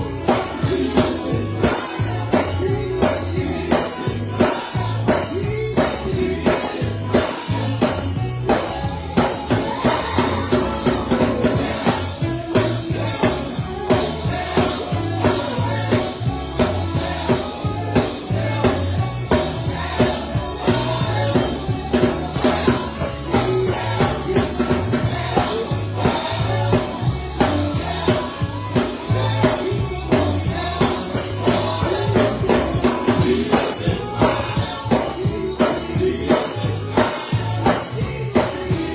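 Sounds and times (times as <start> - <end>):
bass line: 0.0 - 38.9
drum kit beat: 0.0 - 38.9
upbeat gospel band: 0.0 - 38.9.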